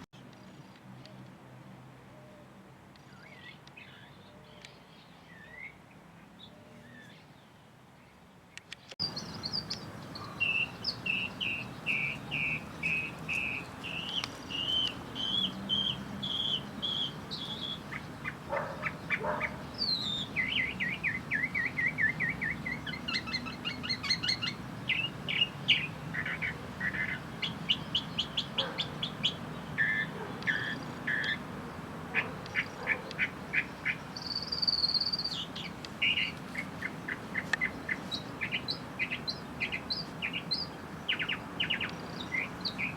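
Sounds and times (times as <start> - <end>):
small birds chirping and trilling: 3.0 - 42.9.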